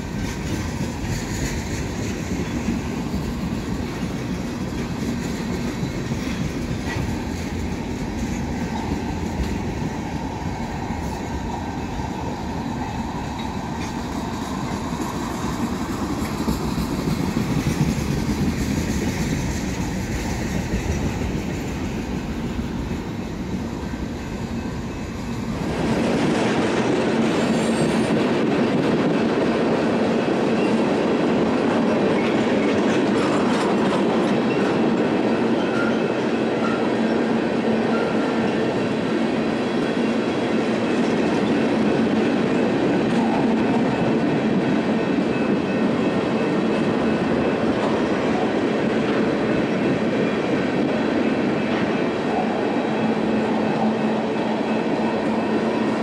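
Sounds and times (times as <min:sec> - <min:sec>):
clickety-clack of wheels: 0:00.0 - 0:56.0
train wheels rumbling on rail: 0:00.0 - 0:56.0.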